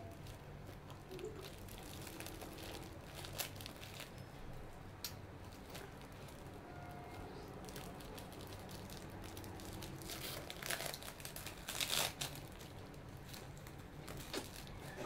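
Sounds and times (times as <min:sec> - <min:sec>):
plastic wrapper crinkling: 0:00.0 - 0:04.4, 0:05.4 - 0:15.0.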